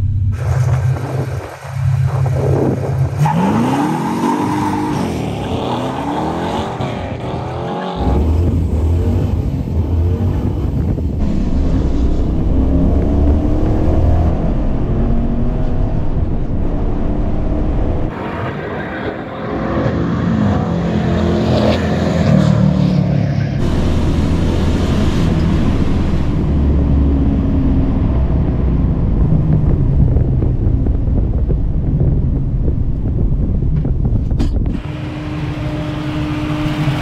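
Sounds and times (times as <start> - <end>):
car engine at full throttle: 0.0 - 37.0.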